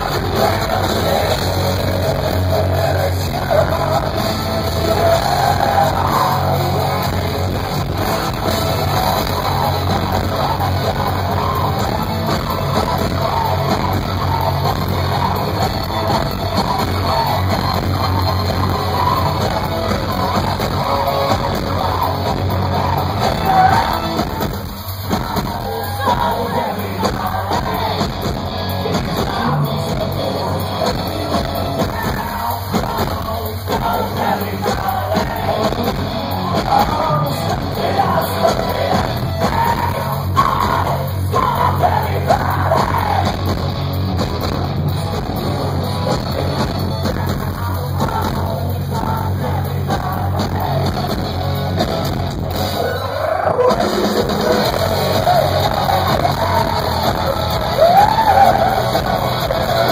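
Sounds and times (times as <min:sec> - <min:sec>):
singer shouting and singing: 0:00.0 - 0:43.5, 0:52.7 - 0:59.9
live rock band playing: 0:00.0 - 0:59.9.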